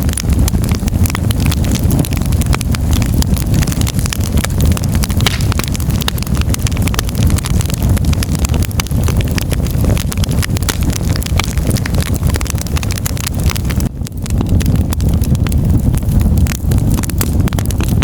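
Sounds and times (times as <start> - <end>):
fire crackling and popping: 0.0 - 18.0
low rumble of fire: 0.0 - 18.0.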